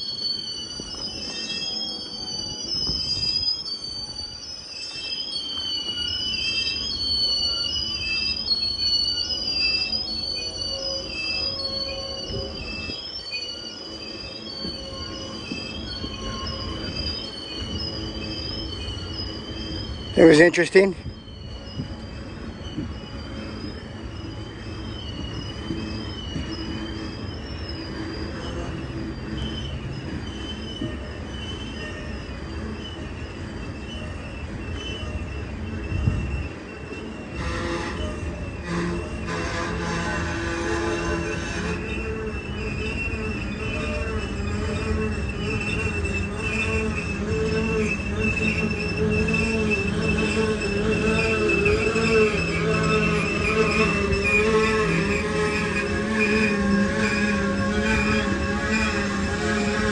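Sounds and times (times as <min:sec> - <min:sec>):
rumble of rolling train cars: 0:00.0 - 0:59.9
train brakes squealing: 0:00.0 - 0:59.9.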